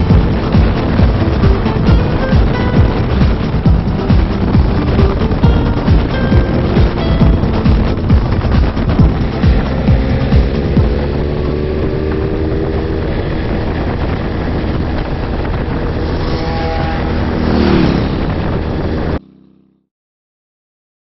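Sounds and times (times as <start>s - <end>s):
wind noise: 0.0s - 19.2s
motorcycle engine at speed: 0.0s - 19.9s
motorcycle passing by: 0.0s - 19.9s.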